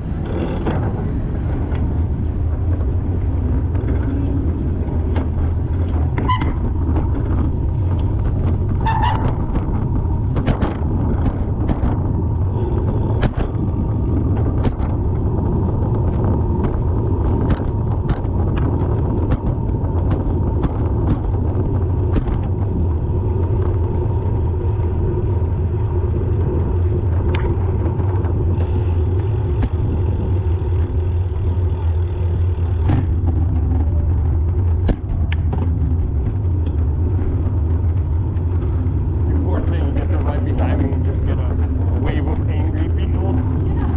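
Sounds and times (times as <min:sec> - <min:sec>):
road and engine rumble: 0:00.0 - 0:43.9.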